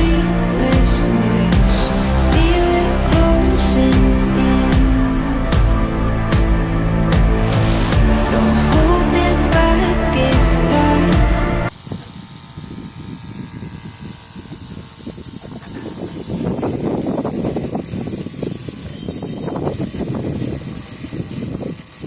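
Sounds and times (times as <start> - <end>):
pressure washer spraying: 0.0 - 5.6, 7.5 - 22.0.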